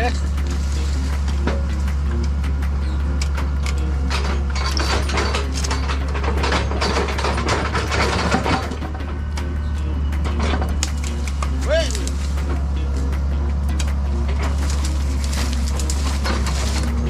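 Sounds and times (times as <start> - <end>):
clicks and clanks: 0.0 - 17.0
machinery engine running: 0.0 - 17.0
scraping of digging: 0.0 - 17.0.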